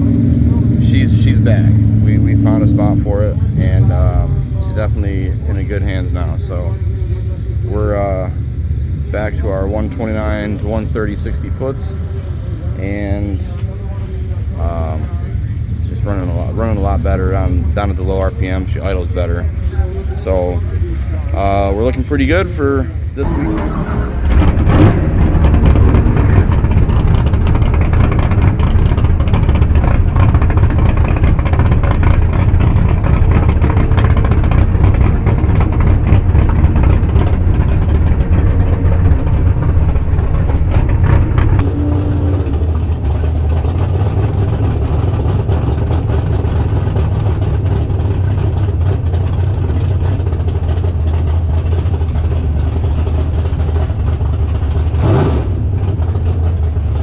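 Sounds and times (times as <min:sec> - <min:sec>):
race car engine idling: 0:00.0 - 0:57.0.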